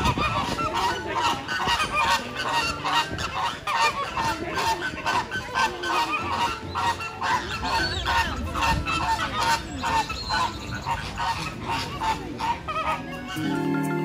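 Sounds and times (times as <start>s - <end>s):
flock of birds honking: 0.0s - 14.0s.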